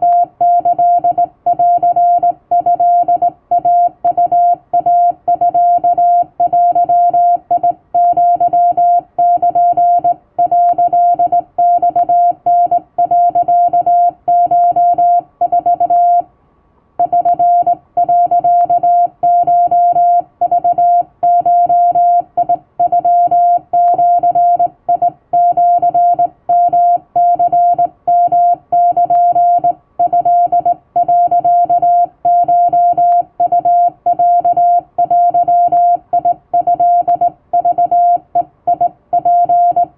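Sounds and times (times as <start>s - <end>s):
morse code tone: 0.0s - 16.2s, 17.0s - 39.9s.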